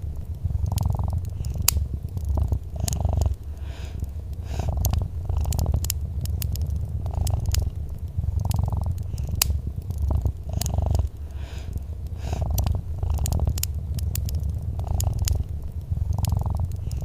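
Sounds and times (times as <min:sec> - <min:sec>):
cat purring: 0:00.0 - 0:17.0
fireplace crackling: 0:00.0 - 0:17.0.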